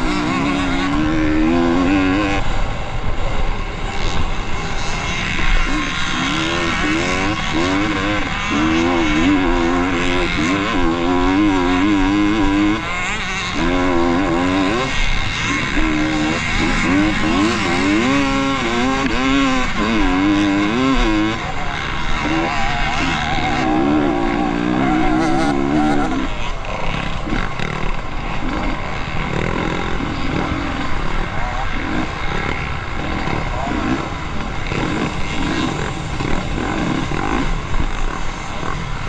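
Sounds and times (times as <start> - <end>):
motorcycle engines revving: 0.0 - 39.0
rough unsteady engine noise: 0.0 - 39.0.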